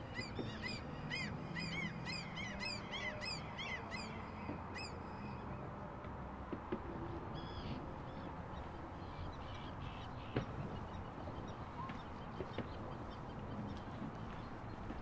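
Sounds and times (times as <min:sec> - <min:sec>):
birds harsh calls: 0:00.0 - 0:05.4, 0:07.3 - 0:15.0.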